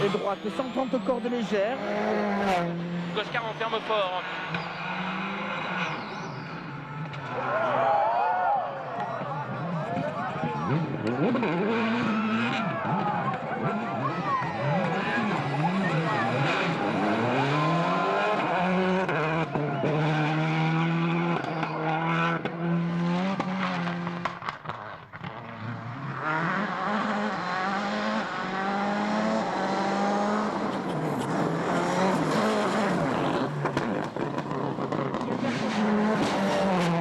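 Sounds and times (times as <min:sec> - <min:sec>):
rally car engine at full throttle: 0:00.0 - 0:37.0.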